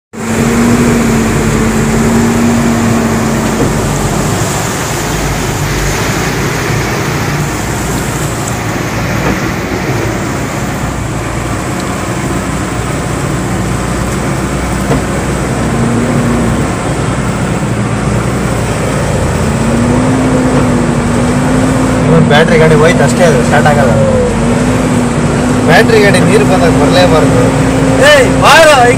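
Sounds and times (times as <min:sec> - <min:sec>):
engines running: 0:00.2 - 0:28.9
heavy rain: 0:00.2 - 0:28.9
vehicles driving through water: 0:00.2 - 0:28.9.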